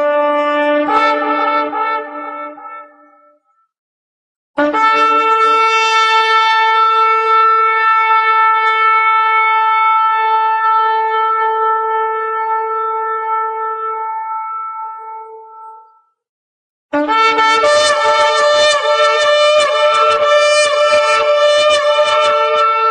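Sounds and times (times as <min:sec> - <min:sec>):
shofar blast: 0:00.0 - 0:03.2, 0:04.6 - 0:15.6, 0:17.0 - 0:22.9.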